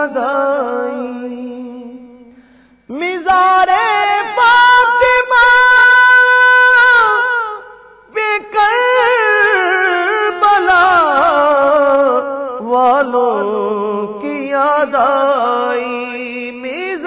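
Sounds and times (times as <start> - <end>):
person singing devotional song: 0.0 - 17.0.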